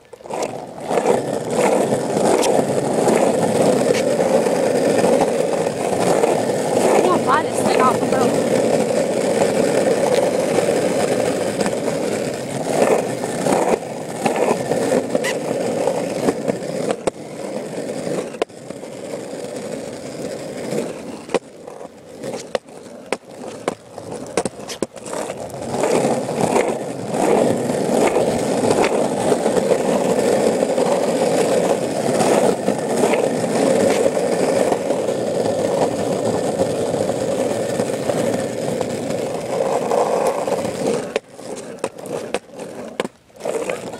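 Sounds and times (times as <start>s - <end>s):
skateboard rolling on asphalt: 0.0s - 43.9s.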